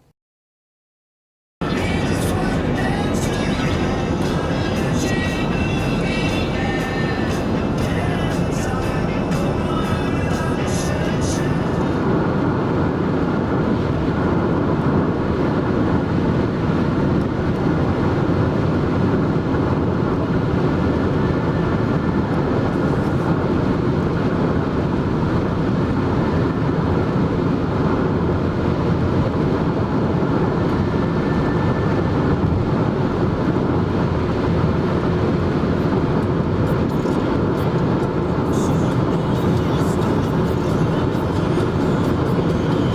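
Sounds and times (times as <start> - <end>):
road noise inside moving car: 1.6 - 42.9.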